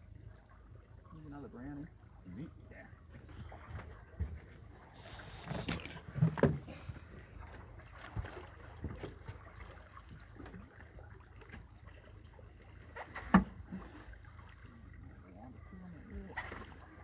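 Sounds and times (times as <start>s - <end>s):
rumble of wind and water: 0.0s - 17.0s
knocks and bumps in a boat: 2.9s - 17.0s.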